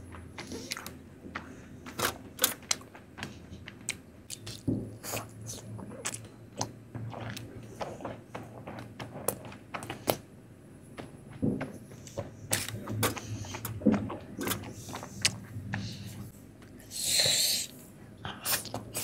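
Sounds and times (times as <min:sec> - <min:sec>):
wet chewing and mouth clicks: 0:00.0 - 0:10.2, 0:12.0 - 0:19.0.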